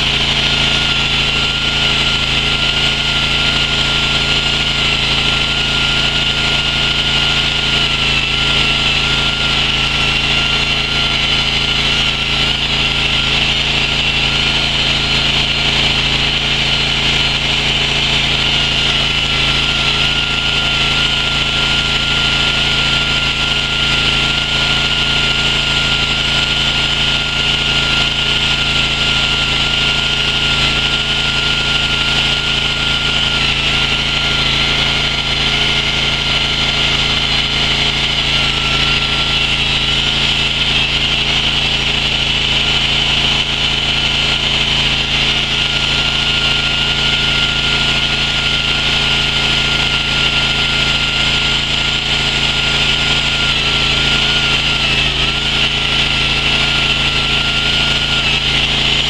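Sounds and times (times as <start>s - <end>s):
chainsaw cutting stone: 0.0s - 59.0s.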